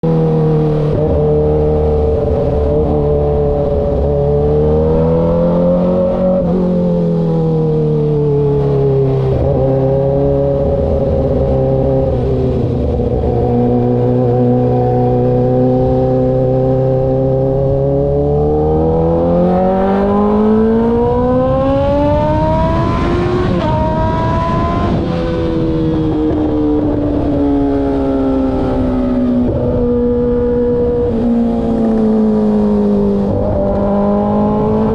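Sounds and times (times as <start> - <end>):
motorcycle engine revving: 0.0 - 34.9
wind noise: 0.0 - 34.9.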